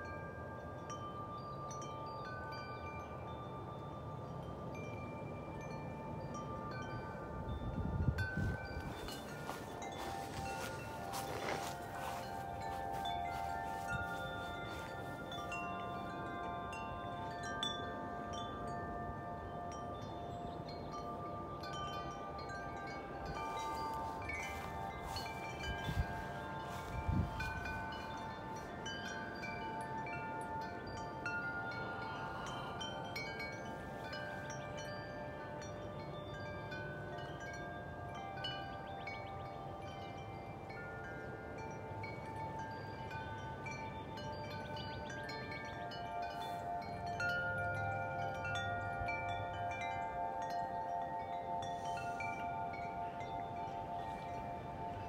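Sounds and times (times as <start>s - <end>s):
metal wind chimes ringing: 0.0s - 55.0s.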